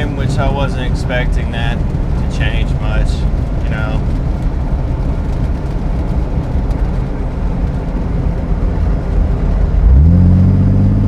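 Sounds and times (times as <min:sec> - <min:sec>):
loud exhaust rumble: 0:00.0 - 0:11.0
road noise: 0:00.0 - 0:11.0.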